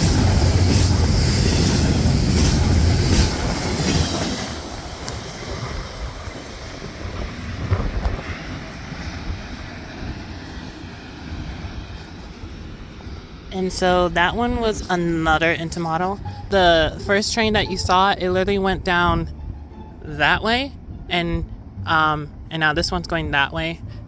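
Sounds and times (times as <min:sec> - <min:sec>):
freight train rumbling past: 0:00.0 - 0:24.0
train clanks: 0:00.0 - 0:24.0.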